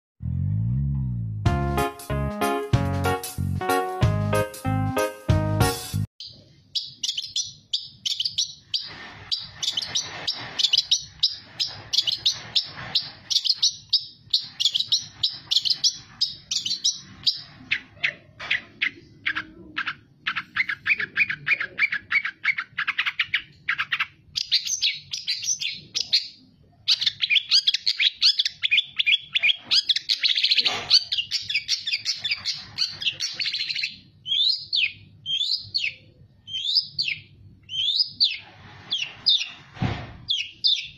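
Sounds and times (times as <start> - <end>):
shrike chirping and trilling: 6.2 - 39.6.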